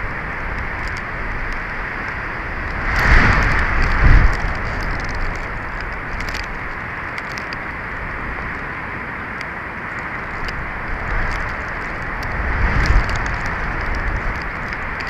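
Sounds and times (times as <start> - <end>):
wind buffeting microphone: 0.0 - 15.0
faint ticks: 0.5 - 7.7, 9.4 - 15.0.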